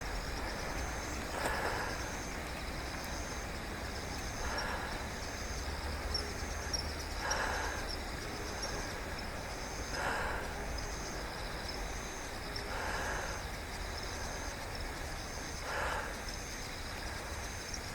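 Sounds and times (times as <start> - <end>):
insects singing in pulsing rhythm: 0.0 - 17.9
low rumble of wind or traffic: 0.0 - 17.9.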